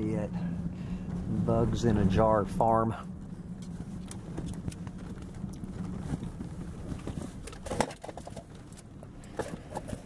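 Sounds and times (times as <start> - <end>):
car interior road rumble: 0.0 - 10.0.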